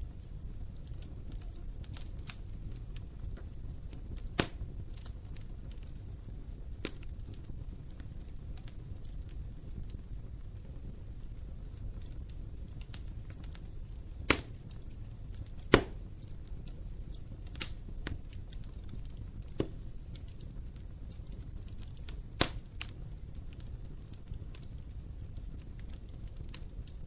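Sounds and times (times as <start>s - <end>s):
fire rumbling: 0.0s - 27.0s
loud sharp pops of fire: 0.0s - 27.0s
wood crackling: 0.0s - 27.0s.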